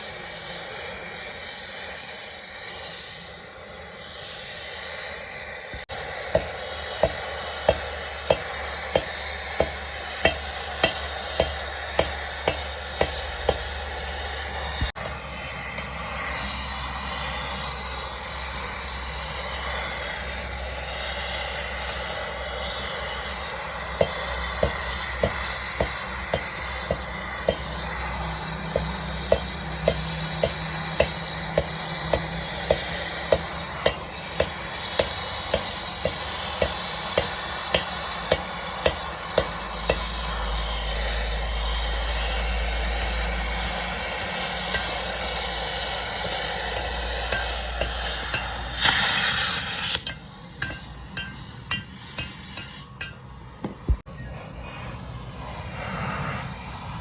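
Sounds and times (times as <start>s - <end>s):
hissing machine noise: 0.0s - 57.0s.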